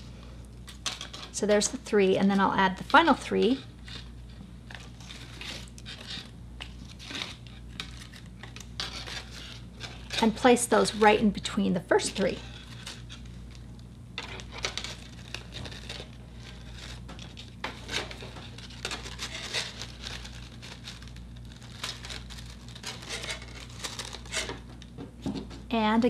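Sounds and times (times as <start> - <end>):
crepe paper rustling and crinkling: 0.7 - 25.5.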